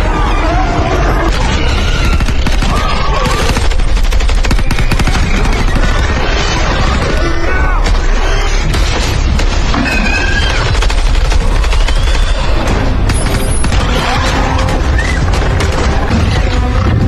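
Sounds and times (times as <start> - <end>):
action film music: 0.0 - 17.0
rapid gunfire: 1.0 - 16.4.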